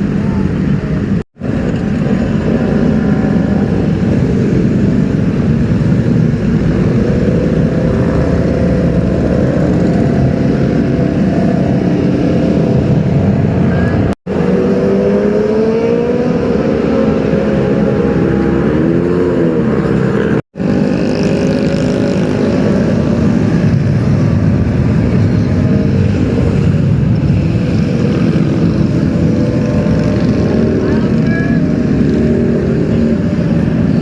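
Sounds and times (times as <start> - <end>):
motorbike engines running: 0.0 - 34.0
motorbike revving: 0.0 - 34.0
street traffic: 0.0 - 34.0.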